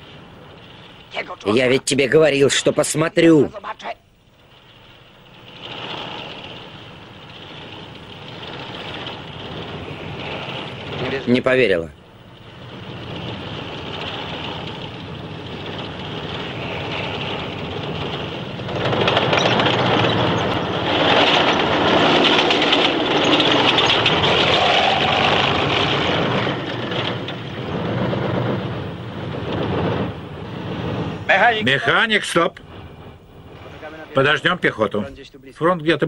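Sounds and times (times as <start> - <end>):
tank engine running: 0.0 - 34.4
clatter of tank tracks: 0.0 - 36.0.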